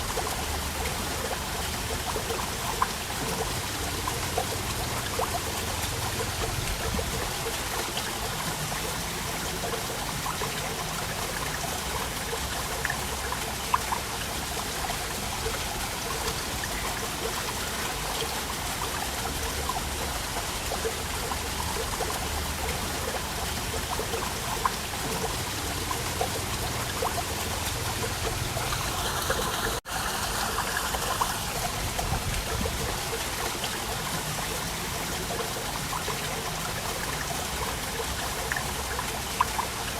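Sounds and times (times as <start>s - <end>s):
waterfall running and splashing: 0.0s - 39.9s.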